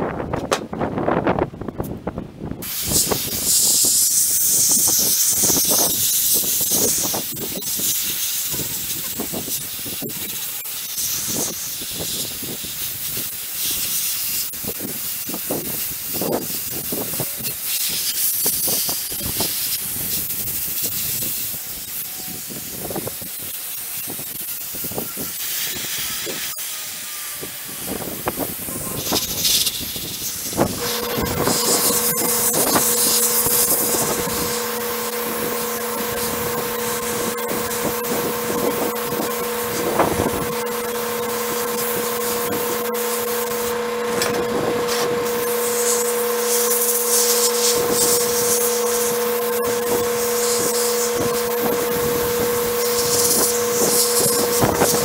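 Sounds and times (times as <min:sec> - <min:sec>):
sandblaster hissing: 0:02.6 - 0:55.0.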